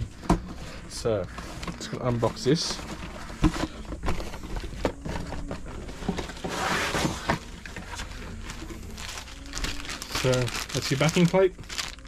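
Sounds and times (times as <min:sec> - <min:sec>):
cardboard rustle: 0:00.2 - 0:12.0.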